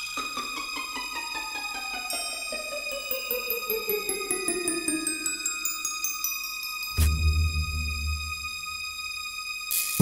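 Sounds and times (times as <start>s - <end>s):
film score music: 0.1s - 10.0s.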